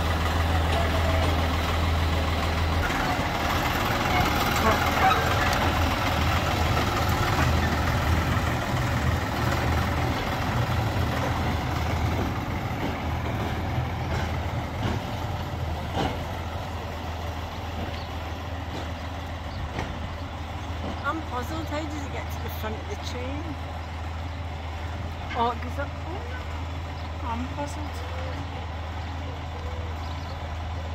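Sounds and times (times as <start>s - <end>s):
locomotive engine humming: 0.0s - 30.9s.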